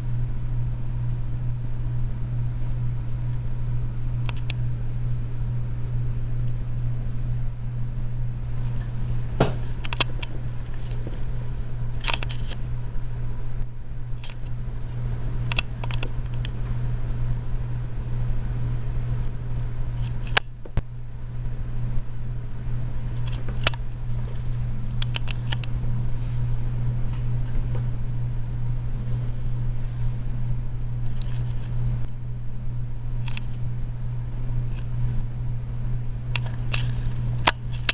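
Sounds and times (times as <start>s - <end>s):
faint high whine: 0.0s - 37.9s
steady low hum: 0.0s - 37.9s.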